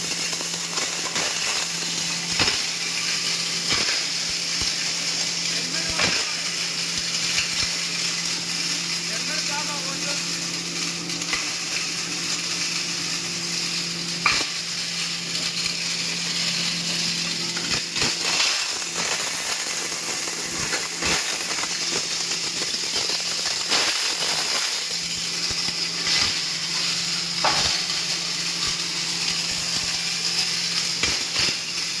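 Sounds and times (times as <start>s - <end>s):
crackles and clicks: 0.0s - 32.0s.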